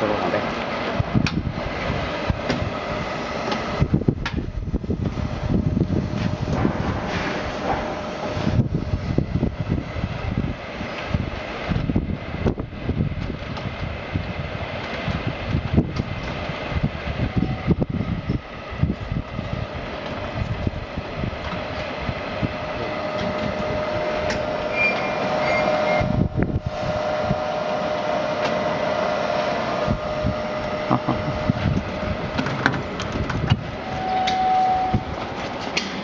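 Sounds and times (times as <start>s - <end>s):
conveyor motor humming: 0.0s - 36.0s.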